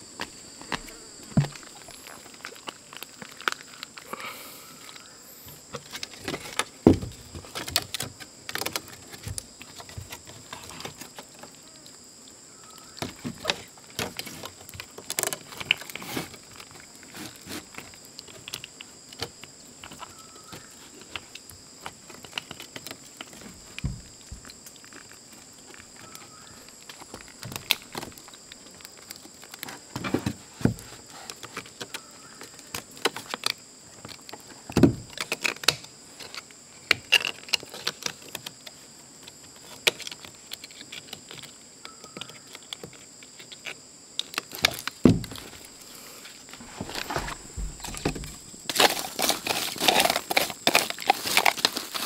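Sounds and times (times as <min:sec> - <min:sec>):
forest insects droning: 0:00.0 - 0:52.0
bamboo clicks and rustles: 0:00.1 - 0:52.0.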